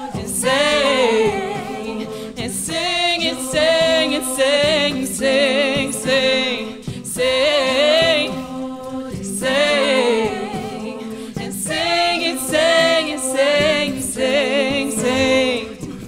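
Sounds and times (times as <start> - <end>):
women singing a cappella: 0.0 - 16.0.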